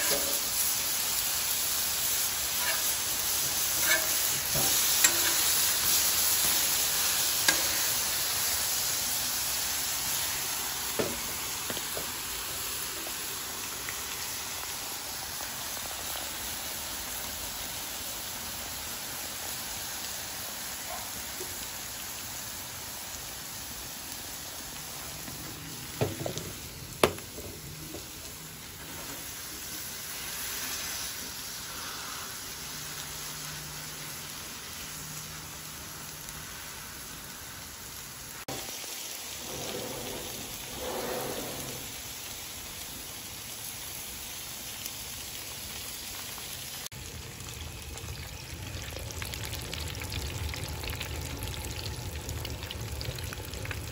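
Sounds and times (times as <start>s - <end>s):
burger patties sizzling on griddle: 0.0s - 53.9s.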